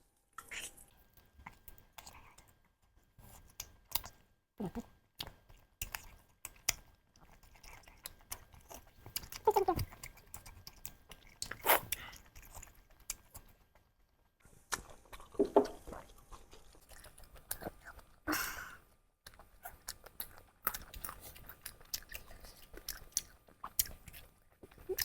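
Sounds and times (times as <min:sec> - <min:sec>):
person chewing food: 0:01.1 - 0:25.0.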